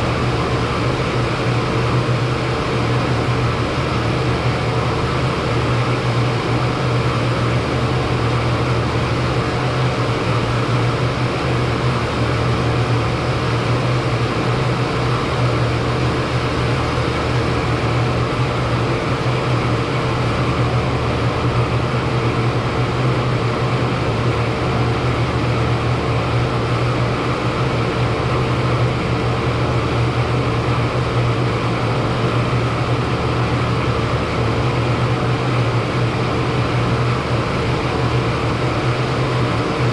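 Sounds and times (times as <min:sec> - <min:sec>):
air conditioning unit humming: 0:00.0 - 0:39.9.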